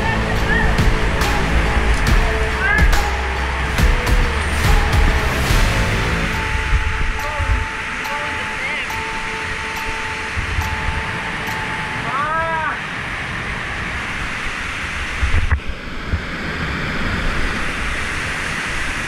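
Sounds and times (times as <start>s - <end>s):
rushing whitewater roar: 0.0s - 19.0s.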